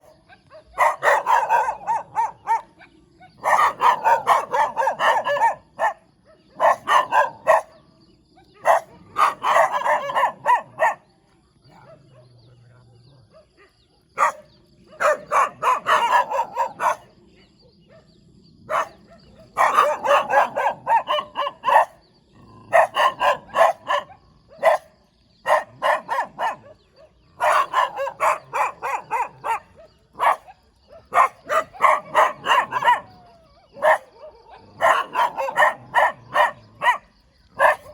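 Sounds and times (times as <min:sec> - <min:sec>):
dog barking: 0:00.0 - 0:07.8, 0:08.4 - 0:11.1, 0:11.7 - 0:12.6, 0:13.2 - 0:37.9.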